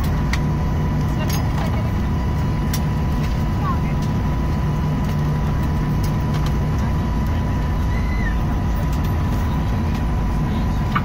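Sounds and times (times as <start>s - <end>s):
airliner cabin rumble: 0.0s - 11.0s
thin steady whine: 0.0s - 11.0s.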